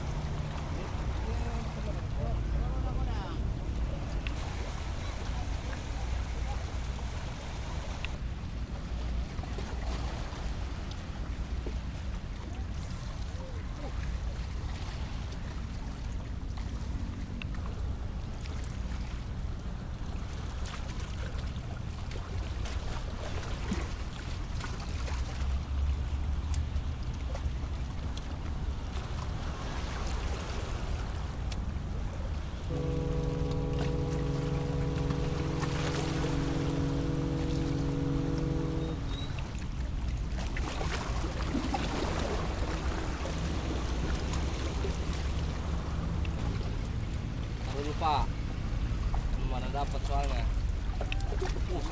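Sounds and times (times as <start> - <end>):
boat engine droning: 0.0 - 51.9
sea noise: 0.0 - 51.9
wind: 0.0 - 51.9.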